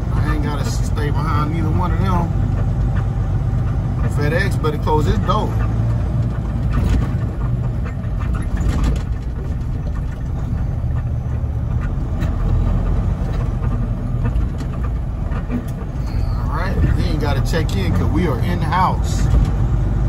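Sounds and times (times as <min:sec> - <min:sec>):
faint clicks and rattles: 0:00.0 - 0:19.7
truck diesel engine rumbling: 0:00.0 - 0:20.0.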